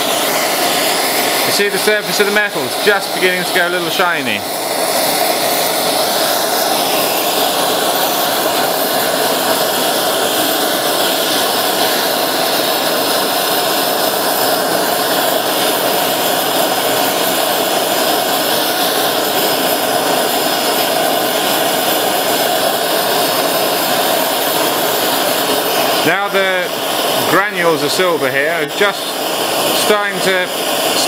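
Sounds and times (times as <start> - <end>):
gas torch flame rushing: 0.0 - 31.0.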